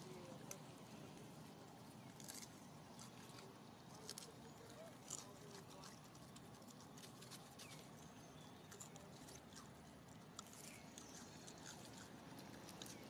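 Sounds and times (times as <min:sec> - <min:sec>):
monkey chewing crunchily: 0:00.0 - 0:13.0
quiet outdoor ambience: 0:00.0 - 0:13.0.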